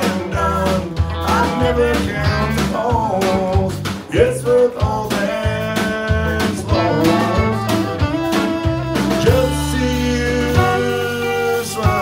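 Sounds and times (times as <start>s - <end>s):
man singing: 0.0s - 8.1s, 9.1s - 12.0s
live country band playing: 0.0s - 12.0s.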